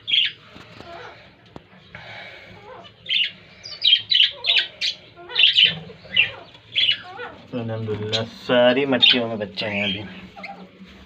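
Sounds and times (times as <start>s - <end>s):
budgerigars squawking: 0.0s - 1.3s, 2.0s - 10.8s
soft bird chatter: 0.0s - 11.0s.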